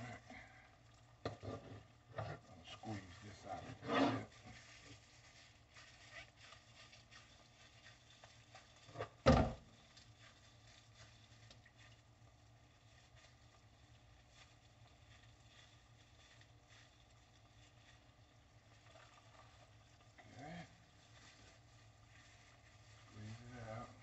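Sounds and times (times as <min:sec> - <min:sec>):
wet handling of raw meat: 0:00.0 - 0:24.0
rustling: 0:02.6 - 0:24.0.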